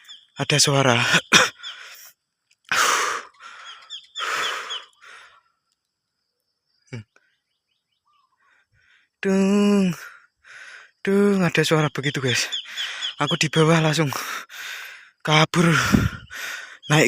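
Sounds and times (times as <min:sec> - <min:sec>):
faint high bird chirps: 0:00.0 - 0:14.2, 0:15.2 - 0:17.0.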